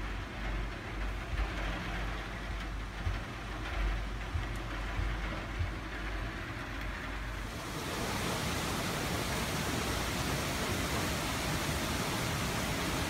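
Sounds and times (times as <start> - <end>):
low rumble: 0.0 - 13.0
rain falling on foliage: 0.0 - 13.0.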